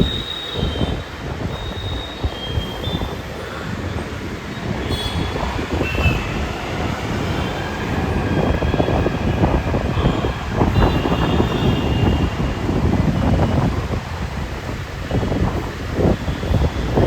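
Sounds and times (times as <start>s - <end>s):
high-pitched wheel squeals: 0.0s - 13.9s
train rumbling on track: 0.0s - 17.0s.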